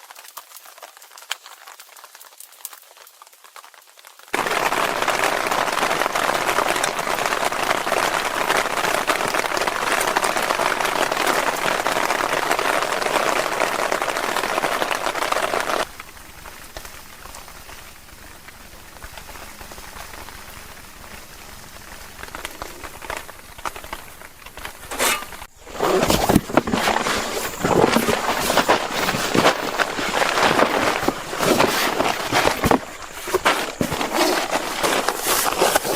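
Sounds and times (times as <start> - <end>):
heavy rain falling: 3.0 - 35.9.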